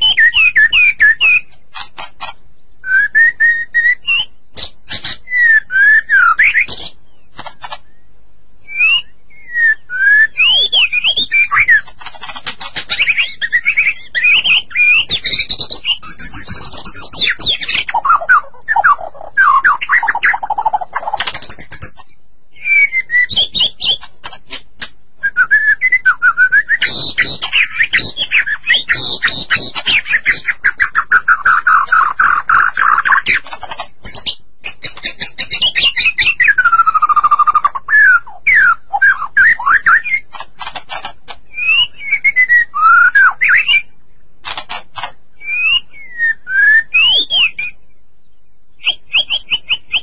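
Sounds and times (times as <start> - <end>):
bird singing whistles and trills: 0.0 - 24.6, 25.2 - 40.4, 41.0 - 44.0, 45.0 - 50.0.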